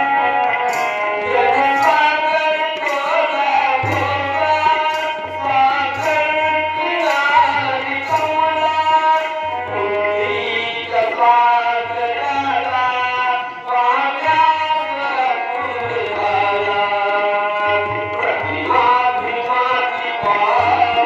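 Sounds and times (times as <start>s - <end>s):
electronic keyboard melody: 0.0s - 21.0s
man singing: 0.0s - 21.0s
tabla beat: 0.0s - 21.0s.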